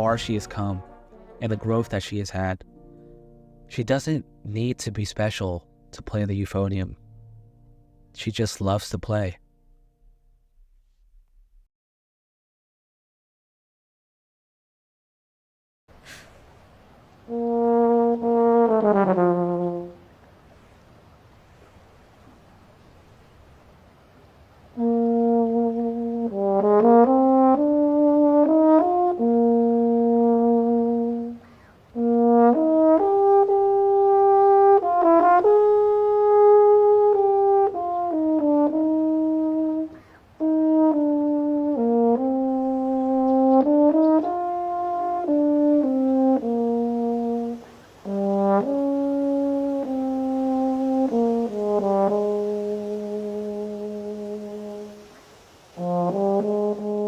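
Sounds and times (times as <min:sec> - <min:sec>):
euphonium slow melody: 0:00.0 - 0:11.1, 0:16.2 - 0:57.0.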